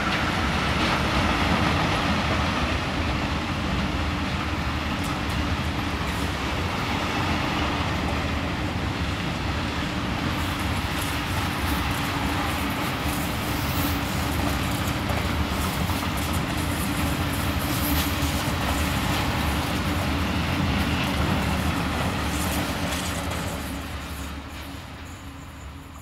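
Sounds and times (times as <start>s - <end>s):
train rumbling past on rails: 0.0s - 26.0s.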